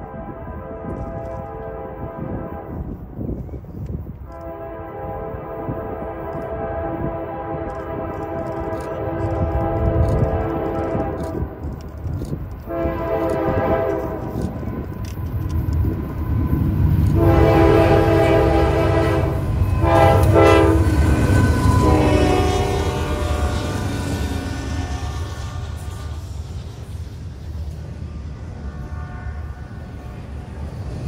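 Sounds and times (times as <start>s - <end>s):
train horn blasts: 0.0s - 3.1s, 4.2s - 11.8s, 12.6s - 15.2s, 15.8s - 26.3s, 28.0s - 30.7s
diesel locomotive rumble: 0.0s - 31.0s
train wheels on rails: 0.0s - 31.0s.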